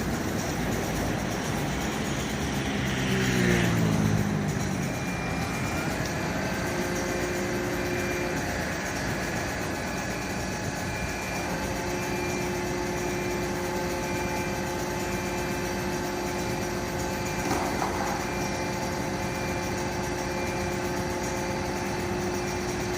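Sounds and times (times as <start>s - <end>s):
fire engine motor idling: 0.0s - 2.8s, 3.8s - 22.9s
held tones: 3.8s - 22.9s.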